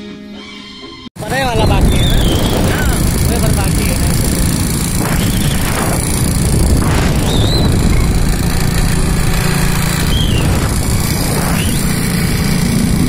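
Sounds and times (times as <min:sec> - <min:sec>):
motorcycle engine running: 0:01.2 - 0:13.0
wind rushing over microphone: 0:01.2 - 0:13.0.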